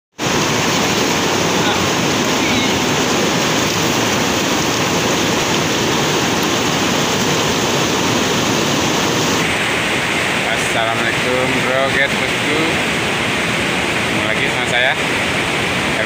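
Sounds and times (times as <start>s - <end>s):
river rushing over rocks: 0.2s - 16.0s.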